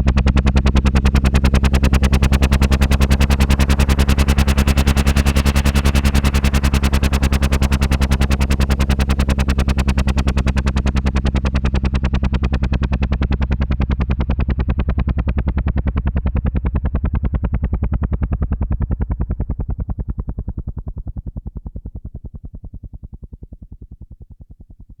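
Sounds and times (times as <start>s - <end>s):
helicopter rotor blades chopping: 0.0s - 25.0s.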